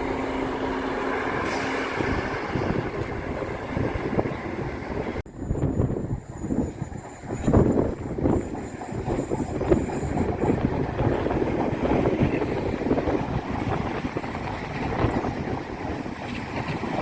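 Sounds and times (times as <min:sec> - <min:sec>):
train rumbling: 0:00.0 - 0:17.0
wind buffeting microphone: 0:00.0 - 0:17.0.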